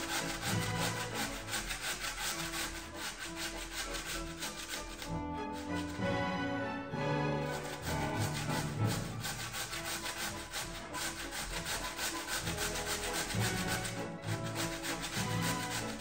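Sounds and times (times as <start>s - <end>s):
vegetables scraping on grater: 0.0s - 6.0s, 7.5s - 16.0s
soft background music: 0.0s - 16.0s.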